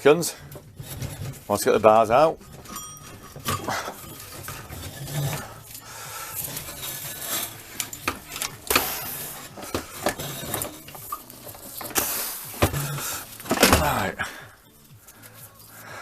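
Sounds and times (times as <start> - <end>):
metal rubbing and scraping: 0.0 - 16.0.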